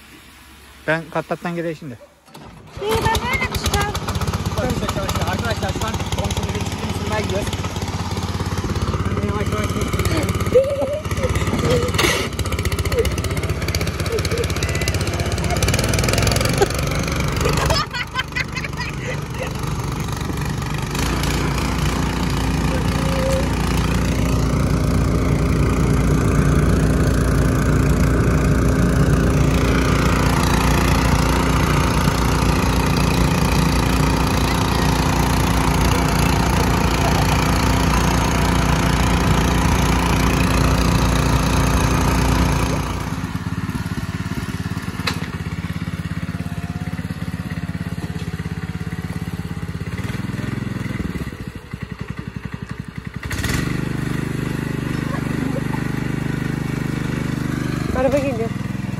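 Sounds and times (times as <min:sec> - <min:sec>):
walking tractor engine running: 0:02.2 - 0:58.9.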